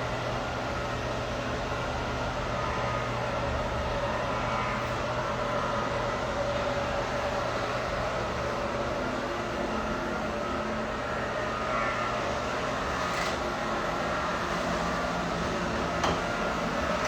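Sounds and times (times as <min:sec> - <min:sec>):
shop machinery drone: 0:00.0 - 0:17.0.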